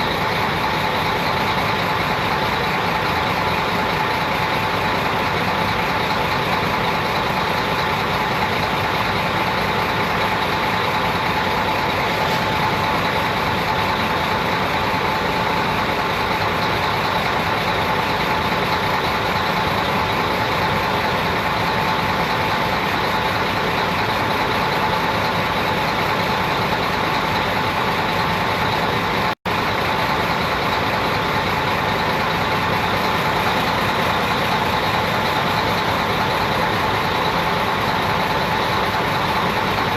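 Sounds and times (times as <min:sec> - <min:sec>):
vehicle engine humming: 0:00.0 - 0:39.9.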